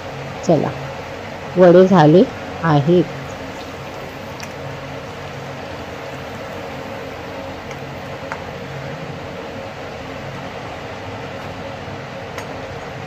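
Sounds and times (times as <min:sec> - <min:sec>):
frying oil sizzling and bubbling: 0:00.0 - 0:11.6.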